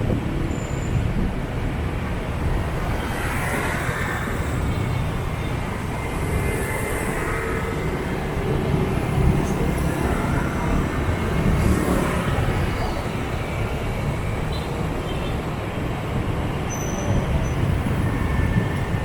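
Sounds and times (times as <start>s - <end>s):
motorbikes humming: 0.0s - 19.0s
scooter engine and road rumble: 0.0s - 19.0s.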